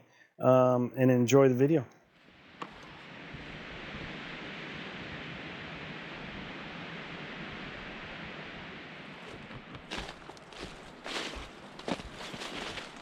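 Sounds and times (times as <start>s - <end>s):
wind rushing through trees: 2.2s - 13.0s.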